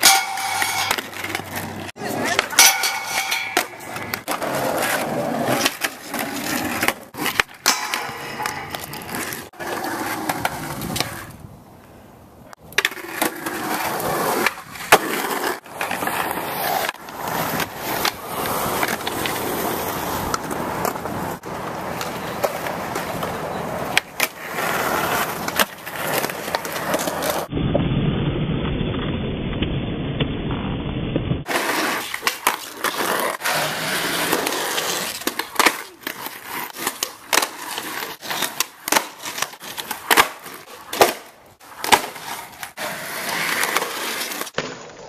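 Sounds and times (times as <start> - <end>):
skateboard clacking on ground: 0.0 - 11.4, 12.5 - 27.5, 31.4 - 45.0
skateboard wheels rolling on concrete: 0.0 - 45.0.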